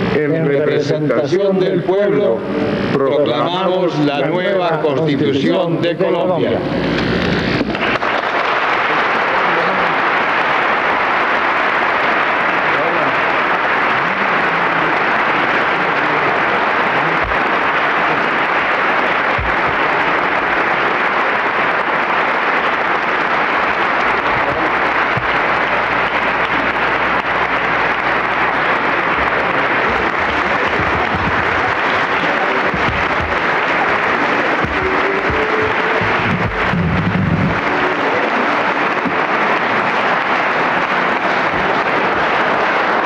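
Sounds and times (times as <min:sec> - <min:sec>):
audience applauding: 0:06.9 - 0:43.0.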